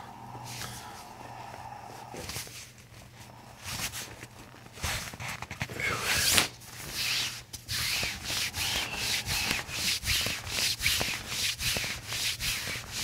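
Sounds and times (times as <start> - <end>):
hands rubbing on shirt fabric: 2.3 - 13.0.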